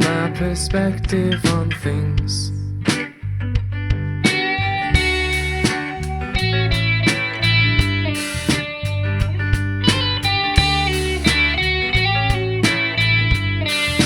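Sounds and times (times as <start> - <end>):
bass guitar: 0.0 - 14.0
drums keeping a beat: 0.0 - 14.0
guitar line of held notes: 0.0 - 14.0
strummed acoustic guitar: 0.0 - 14.0.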